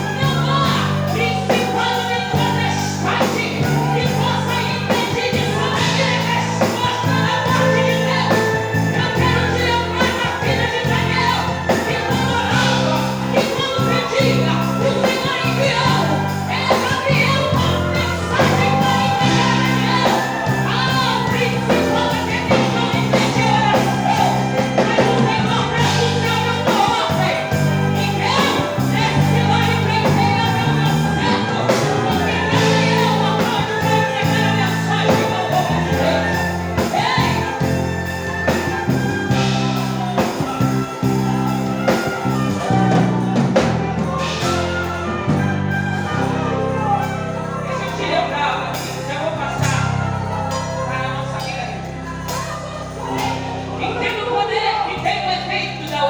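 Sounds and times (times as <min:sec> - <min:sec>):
band accompaniment with bass: 0:00.0 - 0:56.0
group singing gospel hymn: 0:00.0 - 0:56.0.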